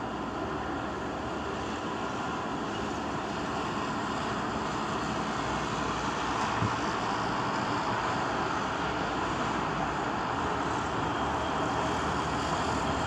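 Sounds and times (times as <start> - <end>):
car road and wind noise: 0.6 - 13.0.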